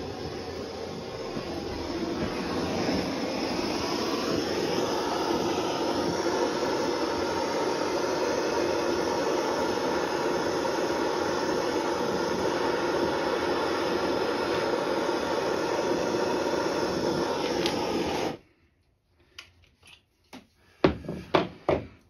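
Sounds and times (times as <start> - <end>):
blowtorch hissing: 0.0 - 18.5.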